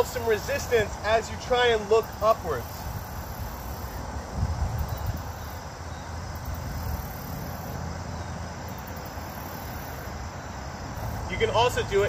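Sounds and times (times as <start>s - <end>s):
high-pitched insect trilling: 2.0s - 11.7s.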